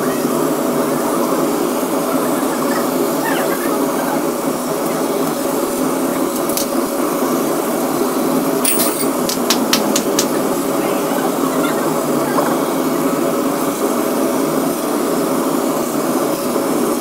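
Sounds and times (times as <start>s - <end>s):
laser cutter whirring: 0.0s - 17.0s.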